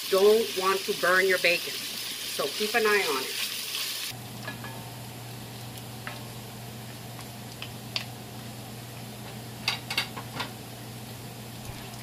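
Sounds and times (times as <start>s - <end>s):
bacon sizzling: 0.0s - 12.0s.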